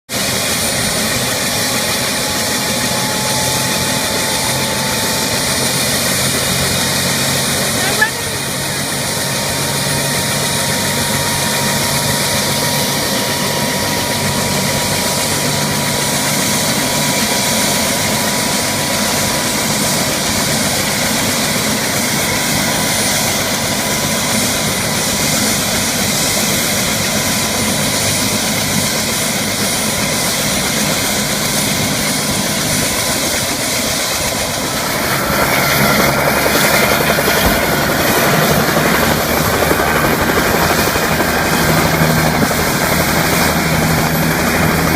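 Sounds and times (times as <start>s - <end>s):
helicopter engine and rotor: 0.1s - 44.9s.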